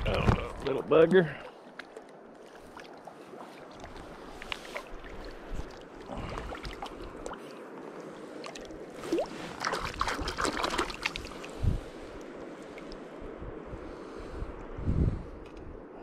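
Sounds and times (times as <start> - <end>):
water splashes: 0.0 - 13.3
river water running: 0.0 - 14.8.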